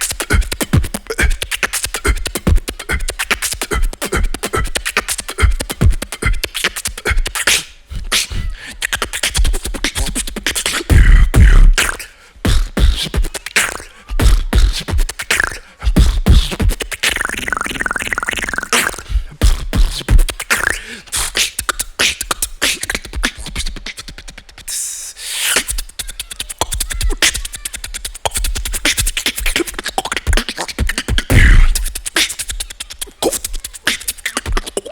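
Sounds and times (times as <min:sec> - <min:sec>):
wavering pitched vocal line: 0:00.0 - 0:25.0, 0:25.6 - 0:34.9
beatboxing: 0:00.0 - 0:34.9.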